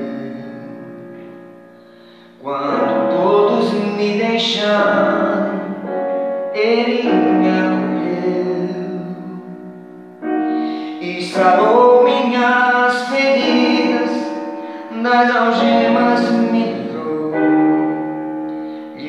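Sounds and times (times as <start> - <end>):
man singing gospel ballad: 0.0 - 1.3, 2.0 - 9.6, 10.5 - 18.0
electronic keyboard chords: 0.0 - 19.0.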